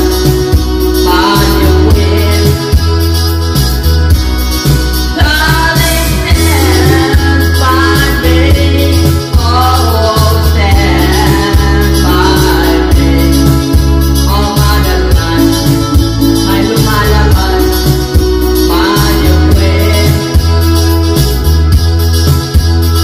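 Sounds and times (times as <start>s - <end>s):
man singing into a microphone: 0.0s - 3.2s, 5.1s - 21.2s
backing music with heavy bass beat: 0.0s - 23.0s.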